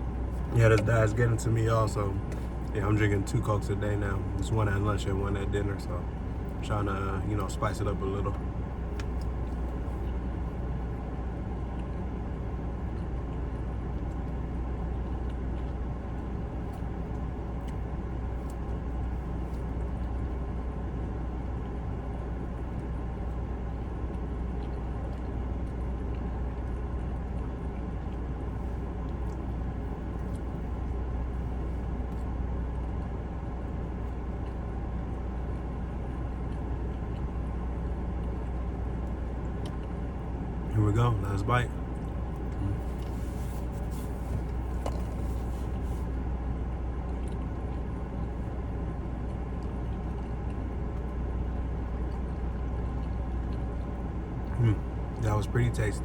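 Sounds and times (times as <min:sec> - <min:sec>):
air conditioning hum: 0:00.0 - 0:56.0.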